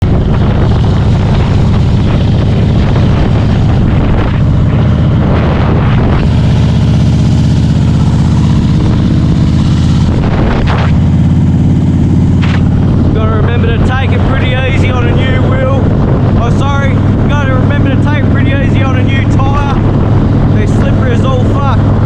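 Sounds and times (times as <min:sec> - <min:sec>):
engine running with low pulse: 0:00.0 - 0:22.0.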